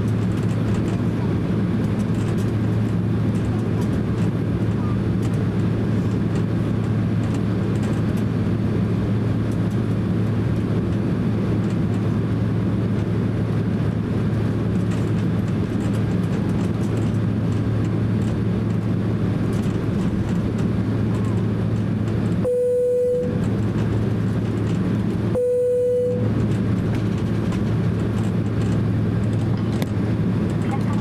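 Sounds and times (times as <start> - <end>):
jet engines droning in cabin: 0.0 - 31.0.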